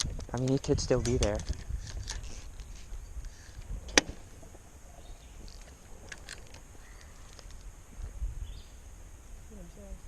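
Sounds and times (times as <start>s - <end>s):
low wind rumble: 0.0s - 10.0s.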